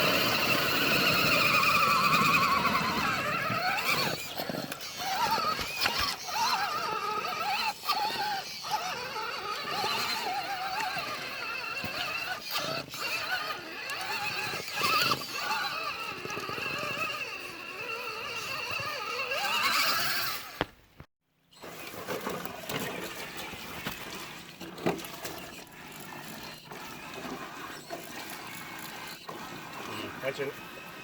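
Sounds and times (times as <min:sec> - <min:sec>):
electric motor whining: 0:00.0 - 0:20.7, 0:25.4 - 0:31.0.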